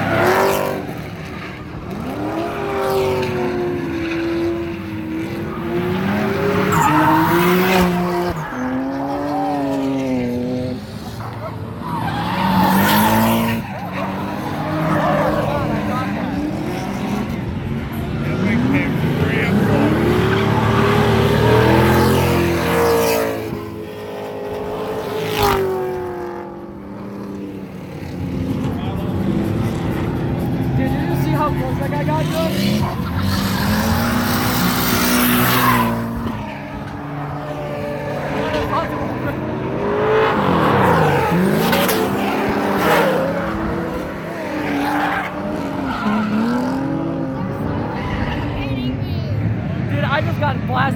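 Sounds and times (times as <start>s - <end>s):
car engines revving past: 0.0s - 50.9s.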